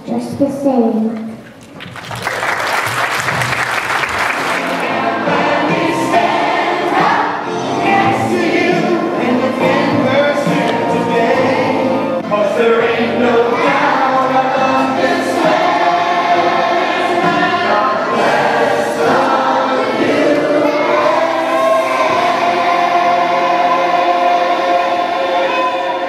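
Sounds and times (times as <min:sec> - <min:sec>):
children singing in chorus: 0:04.6 - 0:26.0.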